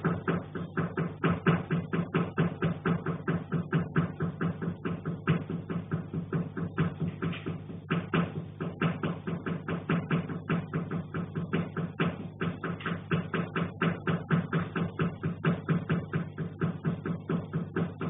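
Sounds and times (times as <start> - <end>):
fast knocking from attic: 0.0 - 18.0
steady low hum: 0.0 - 18.0.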